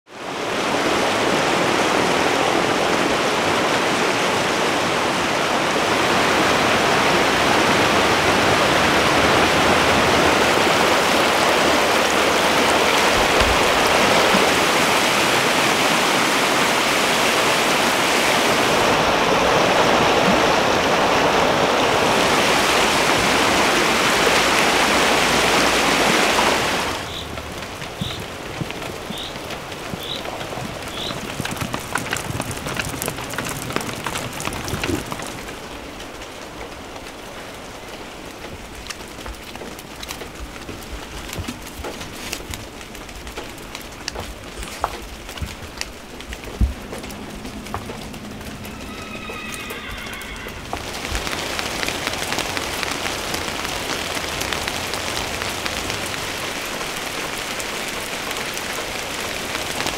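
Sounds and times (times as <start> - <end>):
river rushing over stones: 0.1 - 59.9.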